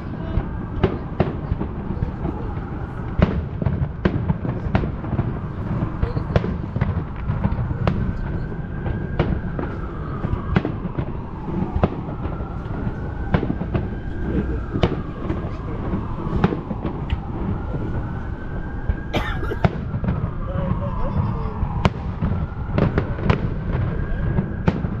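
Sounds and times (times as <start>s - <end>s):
fireworks bangs and pops: 0.0s - 25.0s.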